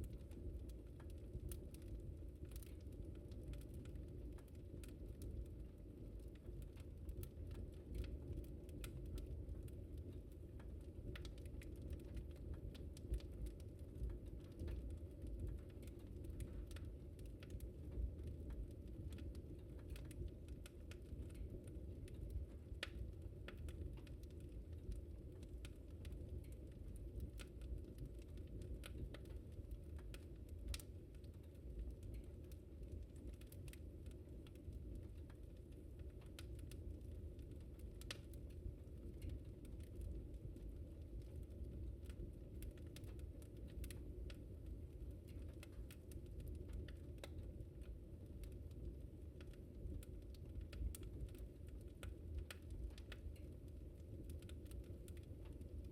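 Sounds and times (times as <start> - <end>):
fire flames rumbling: 0.0 - 55.9
wood crackling and popping: 0.0 - 55.9.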